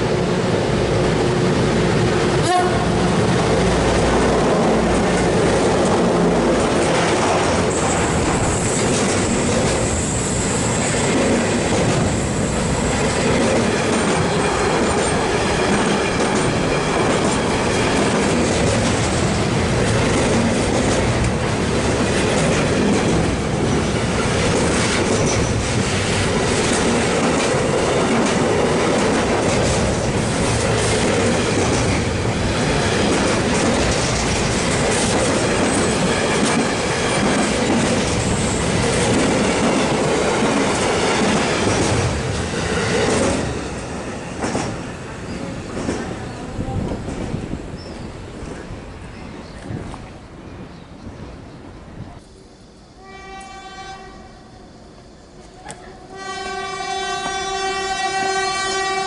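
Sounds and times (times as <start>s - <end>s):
train wheel-on-rail noise: 0.0s - 59.0s.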